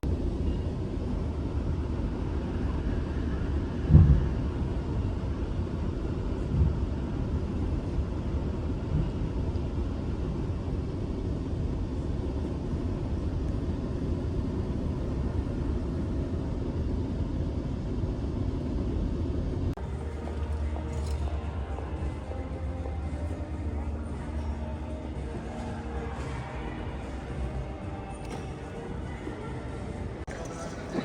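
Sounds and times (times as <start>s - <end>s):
train low rumble: 0.0s - 31.0s.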